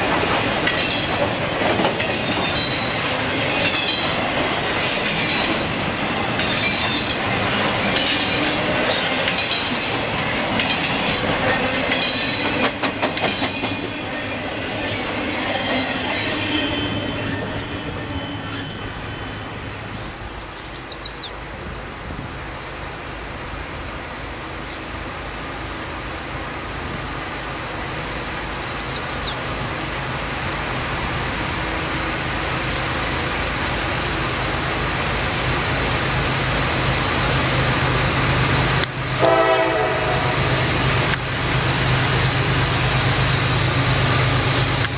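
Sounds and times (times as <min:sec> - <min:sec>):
freight train wheels clacking: 0:00.0 - 0:21.7, 0:27.6 - 0:44.9
distant diesel locomotive hum: 0:00.0 - 0:44.9.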